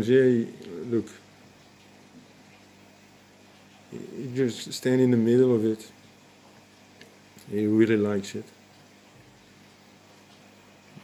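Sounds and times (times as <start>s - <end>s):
aquarium equipment hum and hiss: 0.0s - 11.0s.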